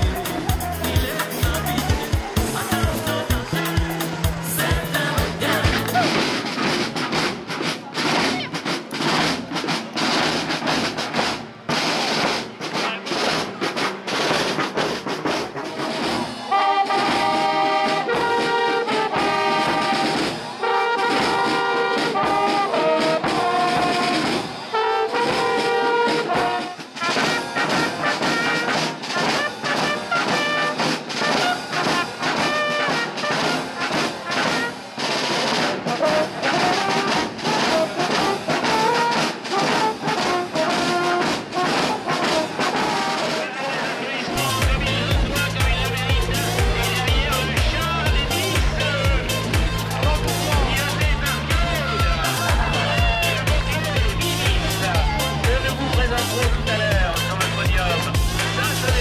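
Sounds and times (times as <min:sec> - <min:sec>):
brass horns and bugles playing: 0:00.0 - 0:07.4, 0:11.2 - 0:59.0
snare and bass drums marching: 0:00.0 - 0:59.0.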